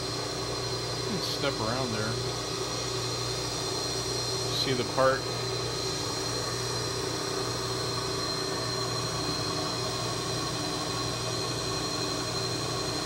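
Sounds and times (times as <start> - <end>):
milling machine motor hum: 0.0 - 13.0
thin high whine: 0.0 - 13.0.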